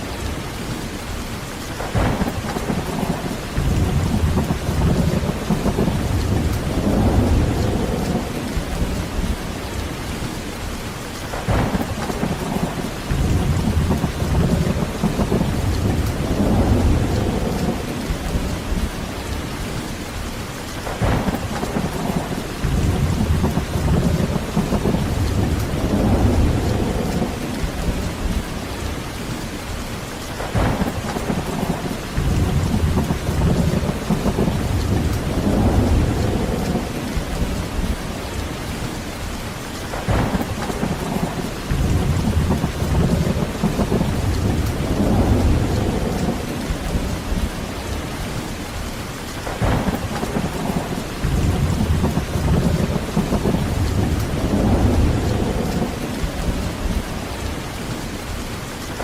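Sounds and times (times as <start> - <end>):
heavy rain: 0.0 - 59.0
rolling thunder: 1.2 - 10.3, 11.2 - 20.2, 20.8 - 29.5, 30.2 - 48.8, 49.4 - 59.0.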